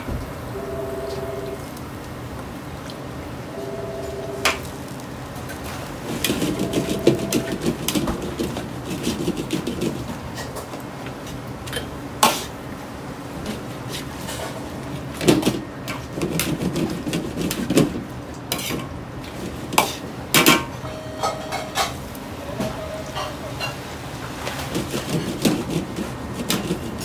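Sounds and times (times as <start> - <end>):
burner and sizzling food: 0.5 - 27.0.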